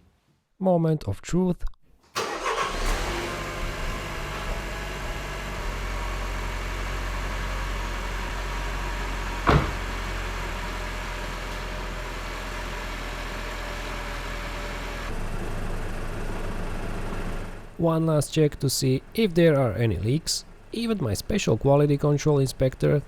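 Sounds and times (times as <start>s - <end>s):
car engine idling: 2.2s - 23.0s.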